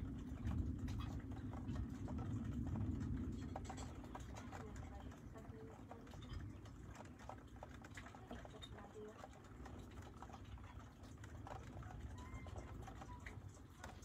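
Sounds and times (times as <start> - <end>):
rain pattering and dripping: 0.0 - 14.0.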